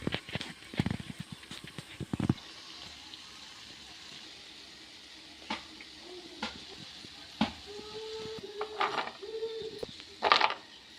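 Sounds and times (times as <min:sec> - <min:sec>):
corn sizzling in a pan: 0:00.0 - 0:10.9.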